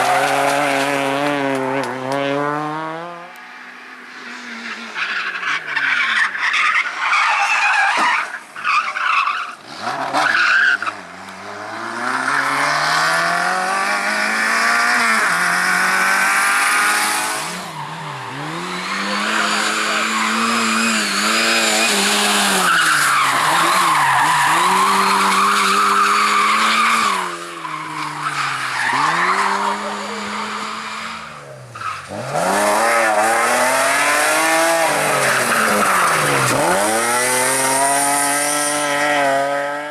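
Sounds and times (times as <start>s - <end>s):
tyres skidding and squealing: 0.0s - 2.7s, 3.5s - 39.7s
race car engine revving: 0.0s - 3.4s, 9.6s - 39.9s.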